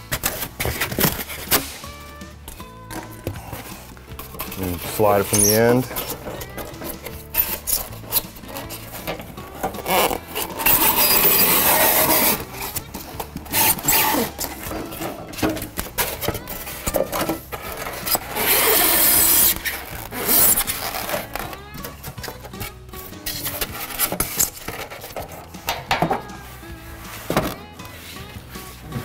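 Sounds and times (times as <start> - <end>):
foam scraping against metal: 0.0 - 29.0.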